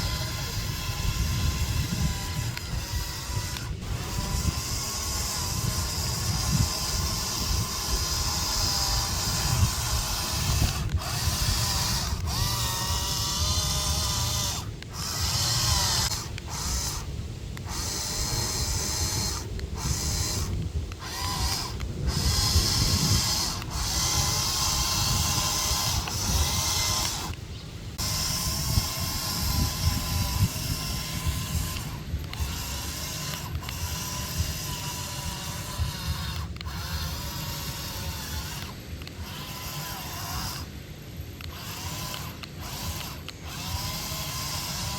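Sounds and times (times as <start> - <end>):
toy motors whirring through gears: 0.0 - 44.9.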